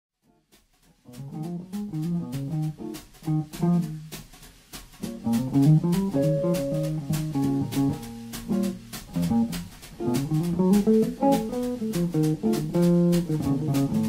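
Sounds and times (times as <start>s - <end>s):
clean electric guitar jazz lines: 1.0s - 4.3s, 5.0s - 14.0s.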